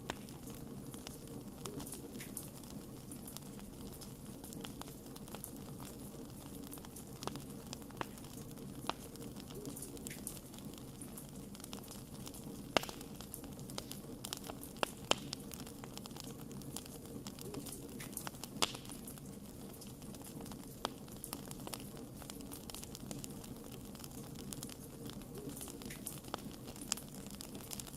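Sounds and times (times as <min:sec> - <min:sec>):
campfire crackling: 0:00.0 - 0:27.9.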